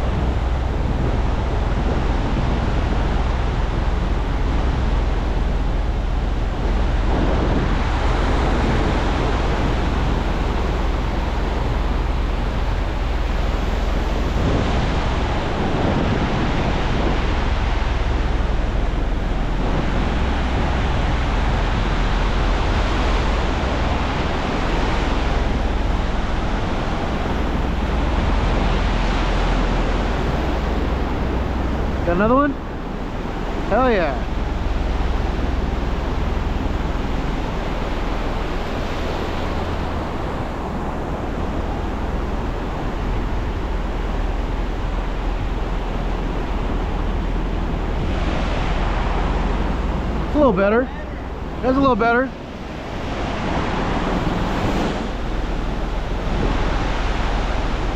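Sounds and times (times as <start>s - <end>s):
ocean surf breaking: 0.0s - 57.9s
wind on microphone: 0.0s - 57.9s.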